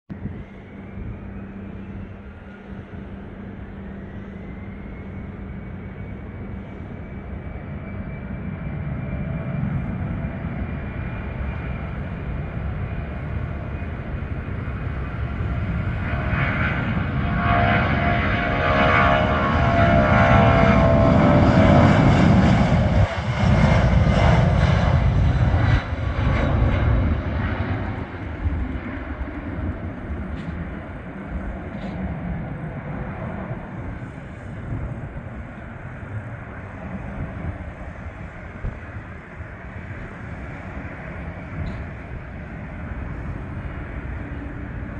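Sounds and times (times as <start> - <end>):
jet engines at takeoff power: 0.1 - 44.9.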